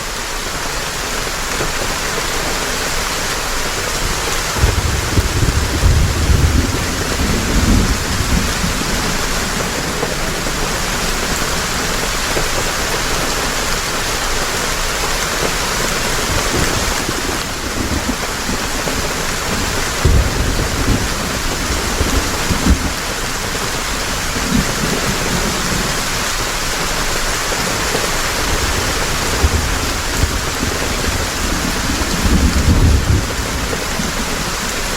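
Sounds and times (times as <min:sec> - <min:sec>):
heavy rain: 0:00.0 - 0:34.9
low thunder rumbles: 0:04.0 - 0:13.2, 0:16.1 - 0:34.9.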